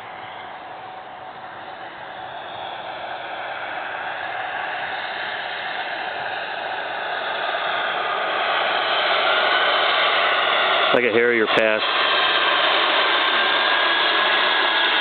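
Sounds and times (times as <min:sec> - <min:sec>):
jet turbine whine: 0:00.0 - 0:15.0.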